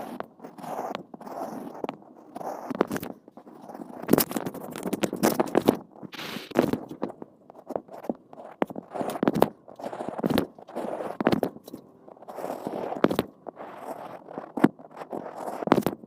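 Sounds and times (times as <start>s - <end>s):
drawing tool scratching a cup: 0.0s - 16.0s.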